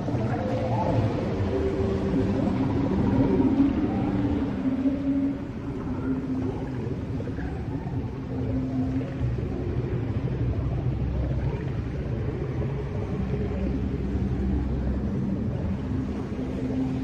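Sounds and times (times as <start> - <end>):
low ambient drone: 0.0 - 17.0.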